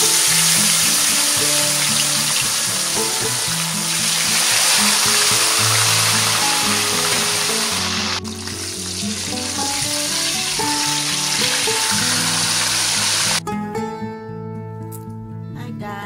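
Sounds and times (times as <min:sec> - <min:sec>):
fish deep-frying in hot oil: 0:00.0 - 0:13.4
soft background music: 0:00.0 - 0:16.0.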